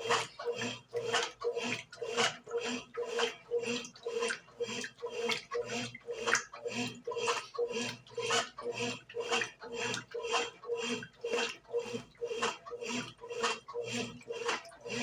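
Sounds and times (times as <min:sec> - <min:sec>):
washing machine motor humming: 0:00.0 - 0:15.0
water sloshing: 0:00.0 - 0:15.0.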